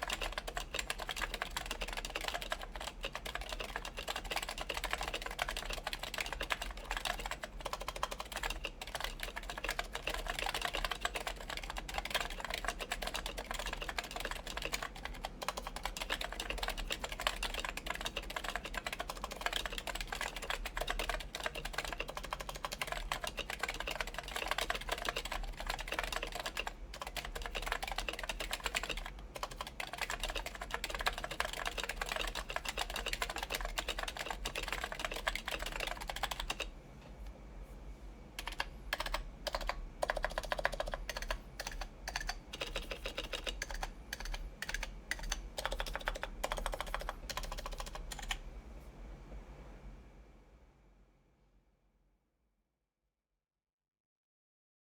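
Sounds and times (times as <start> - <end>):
fast keyboard typing clicks: 0.0 - 36.7, 38.4 - 48.4.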